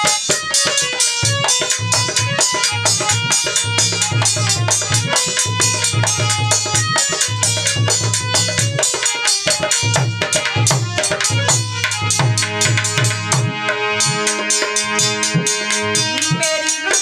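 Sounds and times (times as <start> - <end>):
dholak drum hand strokes: 0.0 - 17.0
harmonium chords: 0.0 - 17.0.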